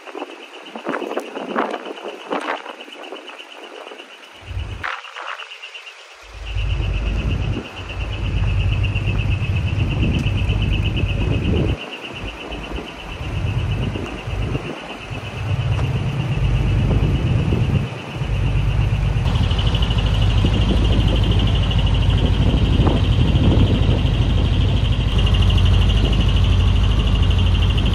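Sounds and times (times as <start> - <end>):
diesel truck engine rumbling: 0.0 - 4.9, 5.7 - 27.9
rapidly pulsing high chirring: 0.0 - 27.9.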